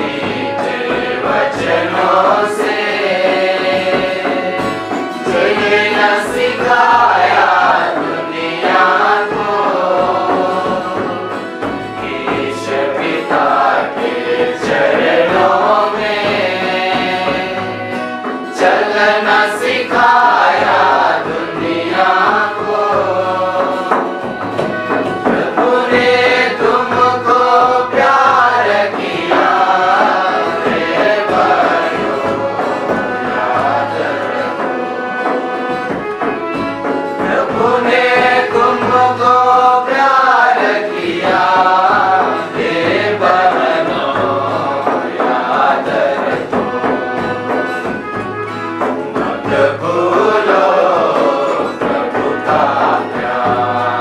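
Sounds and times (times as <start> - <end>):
instrumental accompaniment: 0.0 - 54.0
voices singing a hymn: 0.0 - 54.0.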